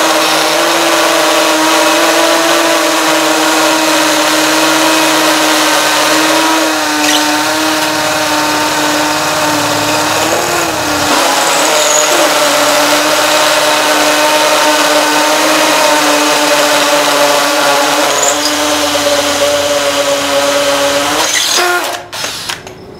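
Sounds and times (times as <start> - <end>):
hammer drill boring into concrete: 0.0 - 22.8.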